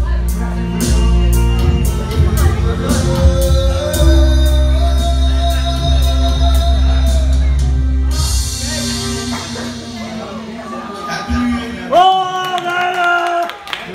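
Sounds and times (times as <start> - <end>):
live band playing rock ballad: 0.0 - 12.0.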